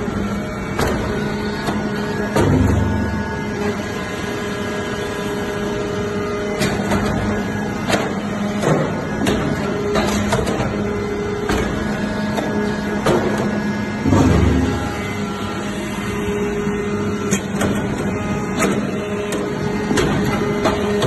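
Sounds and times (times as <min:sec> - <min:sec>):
baler machine hum: 0:00.0 - 0:21.0.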